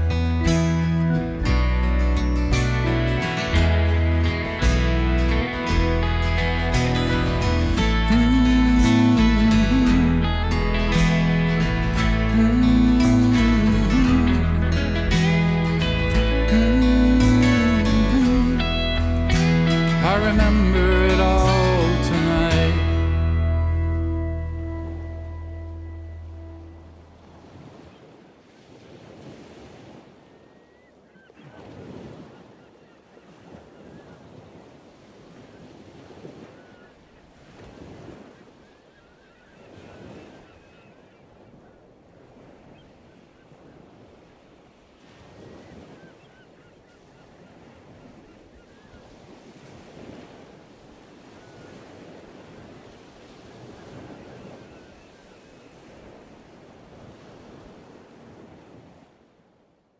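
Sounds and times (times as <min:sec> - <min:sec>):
ocean surf washing ashore: 0:00.0 - 0:59.6.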